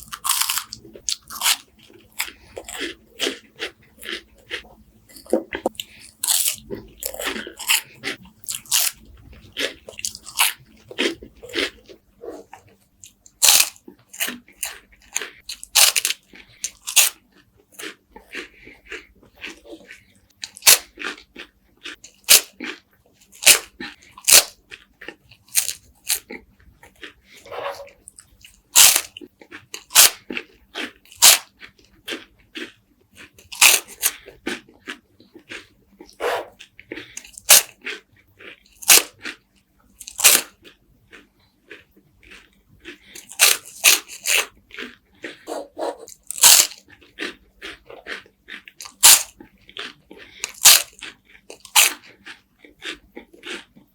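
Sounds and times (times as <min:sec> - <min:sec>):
crisp wafers crunching: 0:00.0 - 0:12.0, 0:13.0 - 0:27.4, 0:28.0 - 0:39.4, 0:40.0 - 0:45.4, 0:46.0 - 0:53.9
crackling chewing: 0:00.0 - 0:53.9.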